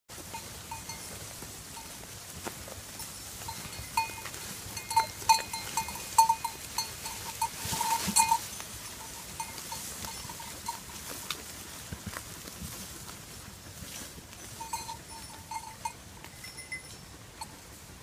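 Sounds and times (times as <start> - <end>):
sheep bells clinking: 0.1 - 18.0.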